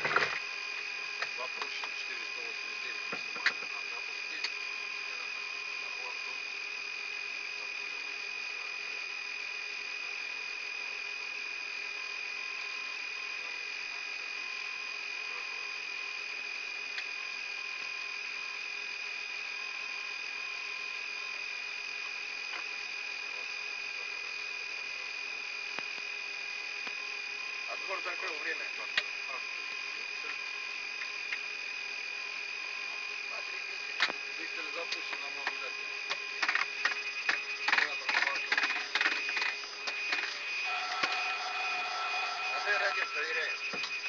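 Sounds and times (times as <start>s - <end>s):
high-pitched engine whine: 0.0s - 44.0s.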